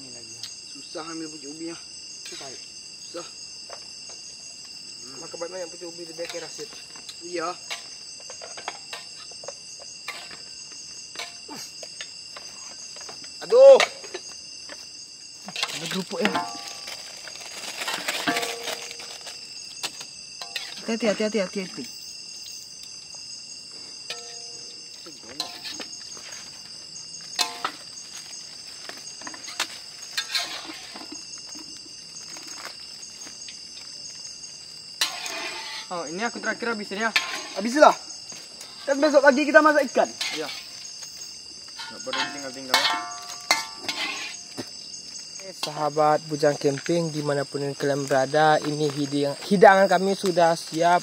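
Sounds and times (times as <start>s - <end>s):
insects shrilling: 0.0s - 51.0s.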